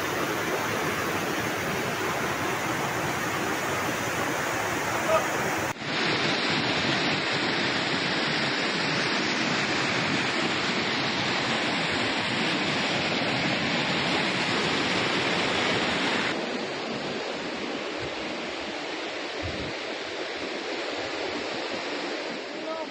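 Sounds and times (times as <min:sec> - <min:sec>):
floodwater rushing: 0:00.0 - 0:22.9.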